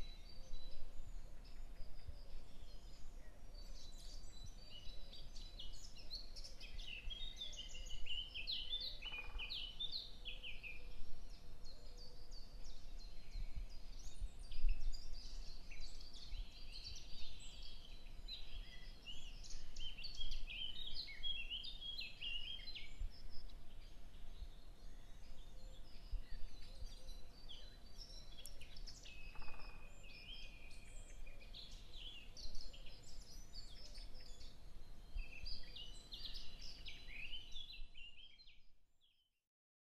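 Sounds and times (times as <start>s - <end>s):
small birds chirping: 0.0s - 39.2s.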